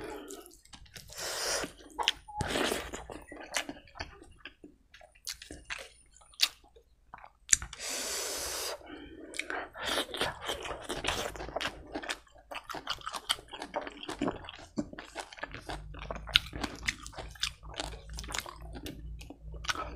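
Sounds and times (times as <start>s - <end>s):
close-miked chewing: 0.0s - 7.8s, 8.8s - 19.9s.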